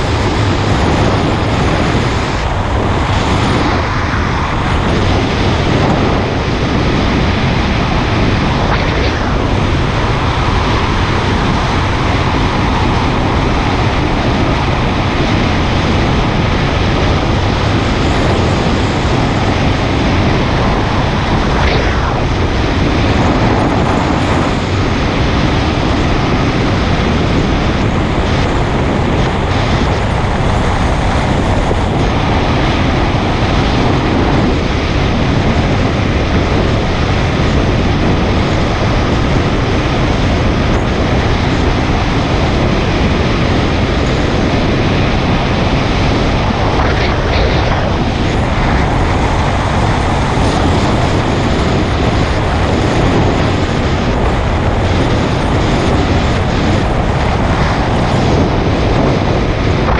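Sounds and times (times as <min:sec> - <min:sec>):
road noise: 0:00.0 - 0:59.9
wind noise on microphone: 0:00.0 - 0:59.9.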